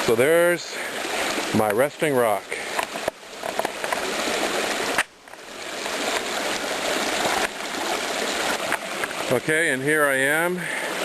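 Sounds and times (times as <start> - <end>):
stream water rushing and splashing: 0.0 - 11.0.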